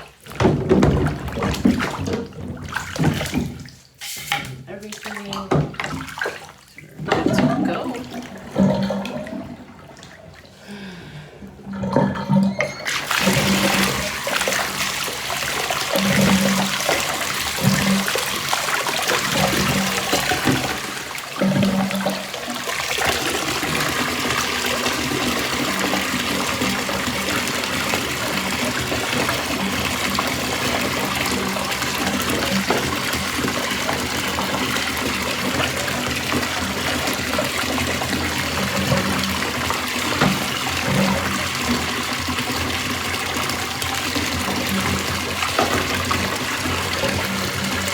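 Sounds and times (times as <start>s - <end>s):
water running from a tap: 0.0s - 10.9s, 12.0s - 47.9s.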